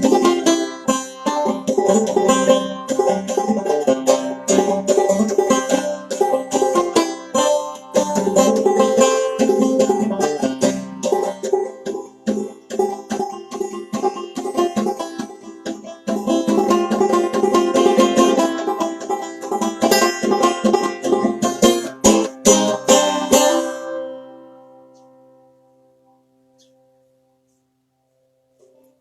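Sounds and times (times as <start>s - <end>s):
banjo playing: 0.0s - 25.9s.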